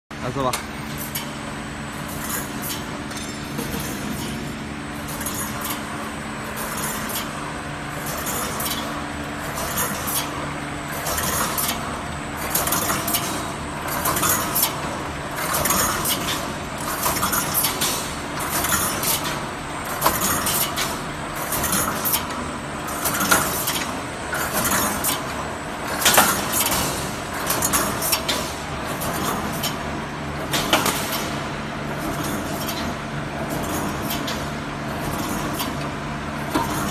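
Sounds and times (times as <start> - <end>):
welding machine hum: 0.3 - 36.9.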